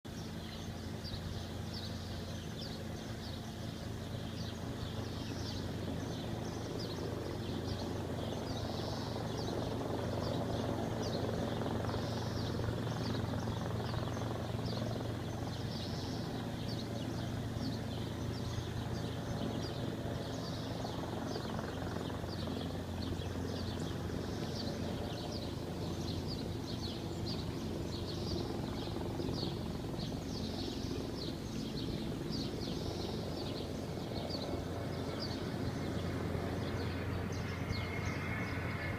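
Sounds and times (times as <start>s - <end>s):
aircraft drone overhead: 0.1s - 38.9s
small birds chirping: 0.1s - 38.9s.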